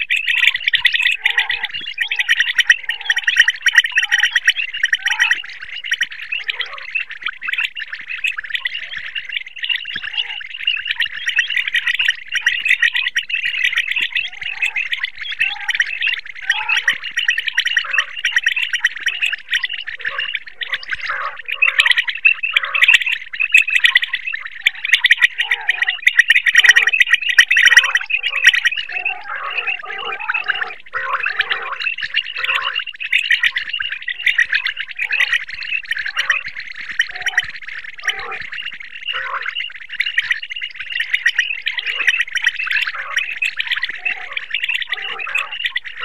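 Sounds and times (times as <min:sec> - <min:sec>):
quail chattering calls: 0:00.0 - 0:46.0.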